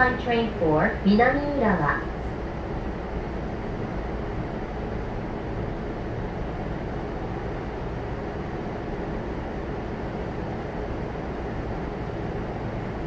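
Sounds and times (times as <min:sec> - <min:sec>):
train equipment hum and hiss: 0:00.0 - 0:13.0.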